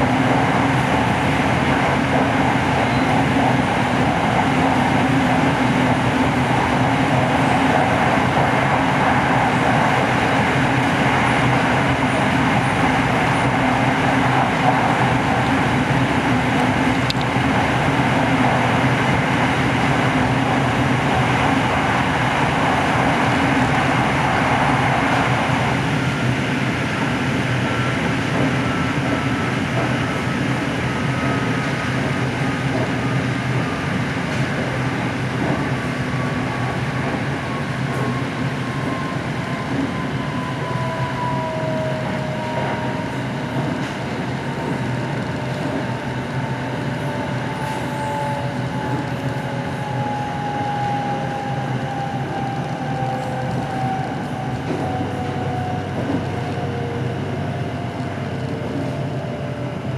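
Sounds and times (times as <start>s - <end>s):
electric train rumble: 0.0s - 59.9s.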